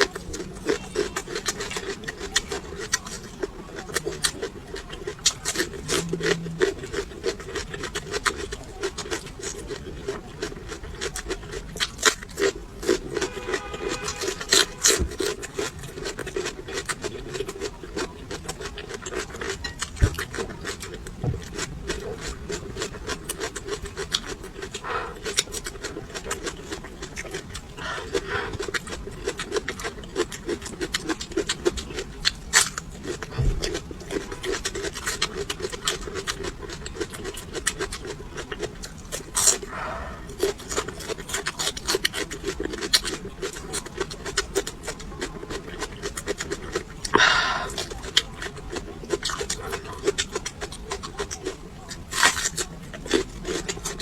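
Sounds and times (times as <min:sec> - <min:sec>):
crunchy chewing: 0:00.0 - 0:54.0
low steady hum: 0:00.0 - 0:54.0.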